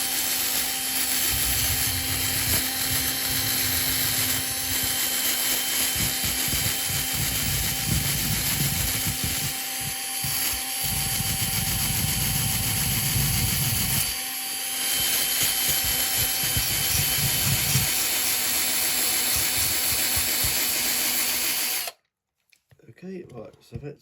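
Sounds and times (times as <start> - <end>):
drill wire brush scrubbing metal: 0.0 - 21.9.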